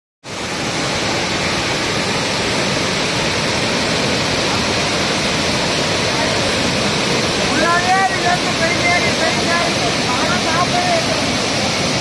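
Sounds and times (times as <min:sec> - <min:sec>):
floodwater rushing over spillway: 0:00.2 - 0:12.0.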